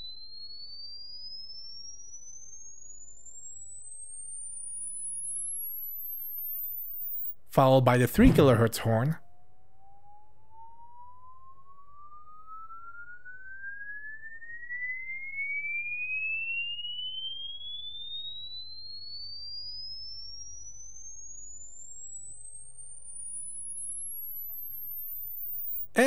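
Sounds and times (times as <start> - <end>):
pure tone sweeping upward: 0.0 - 7.4, 9.2 - 26.0.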